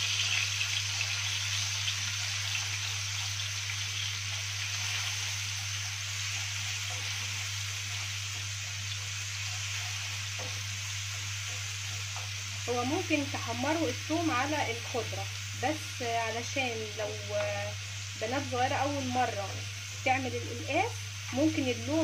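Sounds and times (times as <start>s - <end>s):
garlic sizzling in frying pan: 0.0s - 22.0s.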